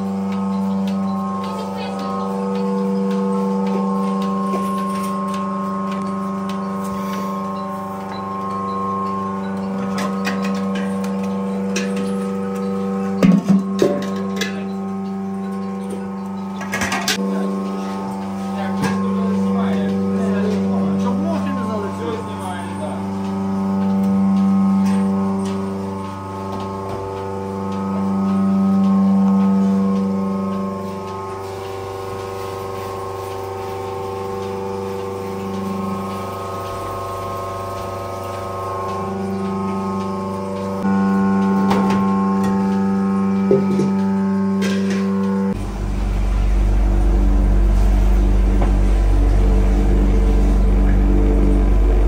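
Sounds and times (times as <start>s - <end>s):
milking equipment motor hum: 0.0s - 52.0s.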